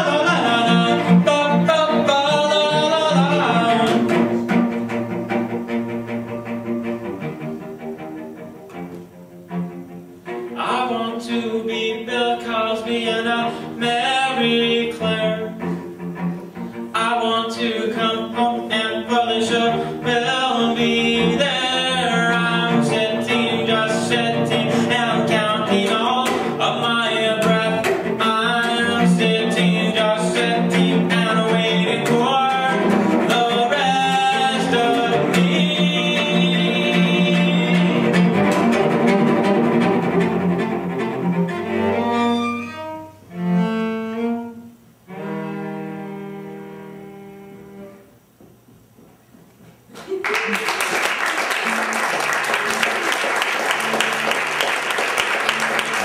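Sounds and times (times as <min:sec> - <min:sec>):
bowed cello: 0:00.0 - 0:48.2, 0:52.4 - 0:56.0.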